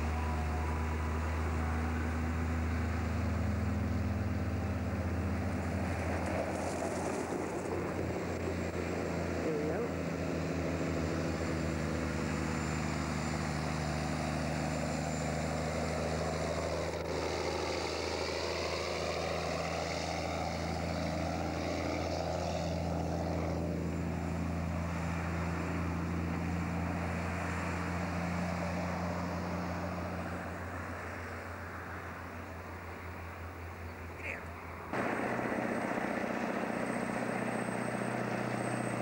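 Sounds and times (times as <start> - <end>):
truck engine droning past: 0.0 - 39.0.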